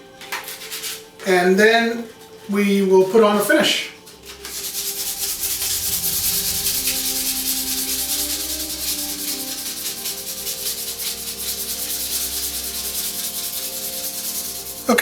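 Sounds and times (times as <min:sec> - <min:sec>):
sandpaper rubbing on wood: 0:00.0 - 0:03.2, 0:03.9 - 0:15.0
background music: 0:00.0 - 0:15.0.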